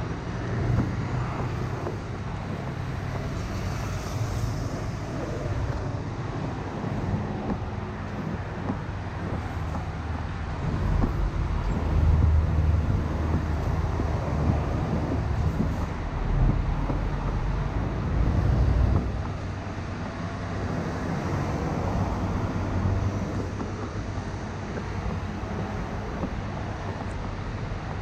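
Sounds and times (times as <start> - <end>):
city road traffic: 0.0 - 28.0
low engine rumble: 0.0 - 28.0.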